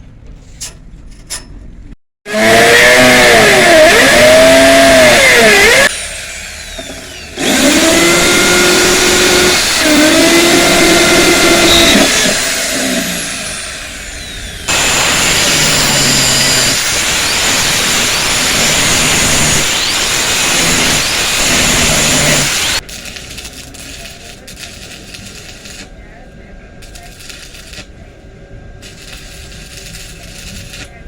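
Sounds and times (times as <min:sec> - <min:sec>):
electric grinder on steel: 0:02.3 - 0:25.9, 0:26.8 - 0:27.9, 0:28.8 - 0:31.0.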